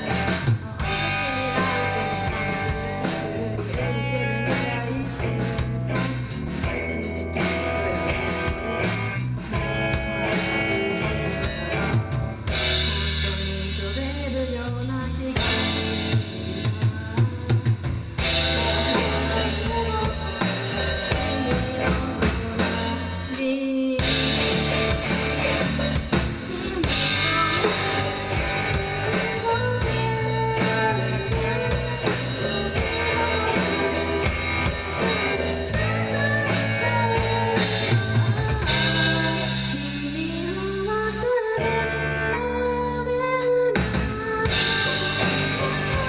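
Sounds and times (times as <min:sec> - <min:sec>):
hard-hit drum fills: 0:00.0 - 0:40.5, 0:43.8 - 0:46.0
drum kit: 0:00.0 - 0:41.4, 0:43.4 - 0:46.0
bass guitar: 0:00.0 - 0:46.0
electric guitar: 0:00.0 - 0:46.0.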